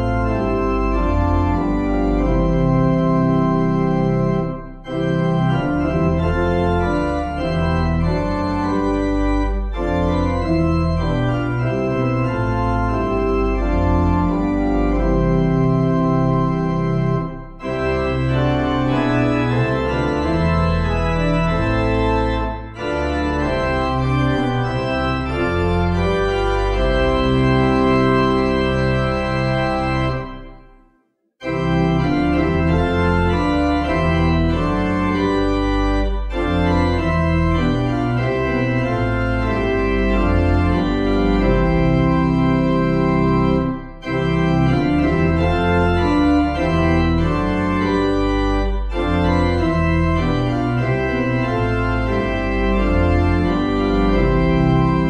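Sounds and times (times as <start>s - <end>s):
organ playing sustained chords: 0.0s - 30.8s, 31.4s - 55.0s.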